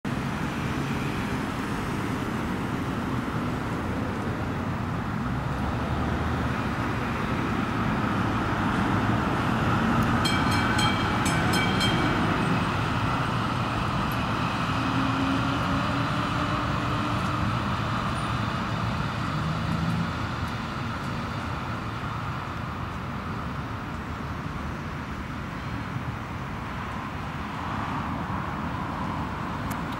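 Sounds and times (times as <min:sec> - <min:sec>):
road traffic: 0:00.0 - 0:29.9
tram rolling past: 0:00.1 - 0:29.7.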